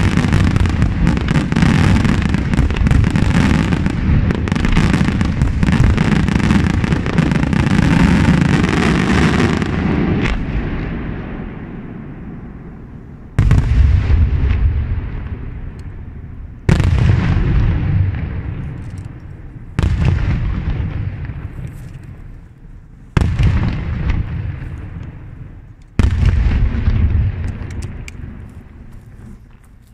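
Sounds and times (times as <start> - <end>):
loud firework booms: 0.0 - 28.9
fireworks bursting and crackling: 0.0 - 29.9.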